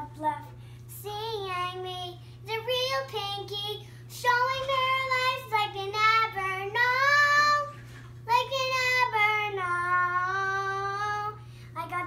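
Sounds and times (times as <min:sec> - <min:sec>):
girl singing unaccompanied: 0:00.0 - 0:12.0.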